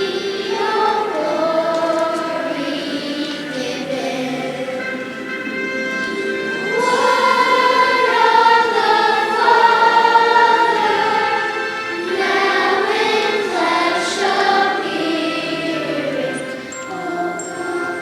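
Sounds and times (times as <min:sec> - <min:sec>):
choir singing long notes: 0:00.0 - 0:18.0.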